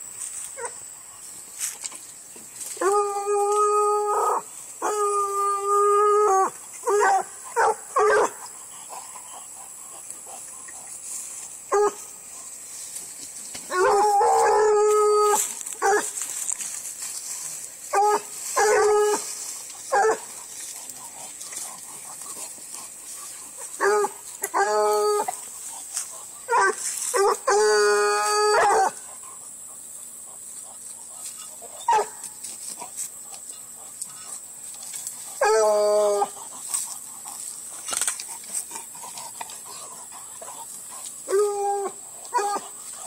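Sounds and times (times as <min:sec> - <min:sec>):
dog baying and barking: 0:02.8 - 0:10.4, 0:11.7 - 0:12.1, 0:13.7 - 0:16.2, 0:17.9 - 0:34.4, 0:35.2 - 0:43.0.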